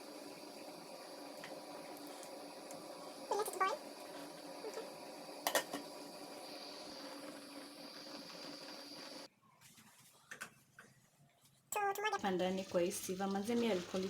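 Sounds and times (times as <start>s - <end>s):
pot of water boiling: 0.0s - 9.3s, 11.8s - 14.0s.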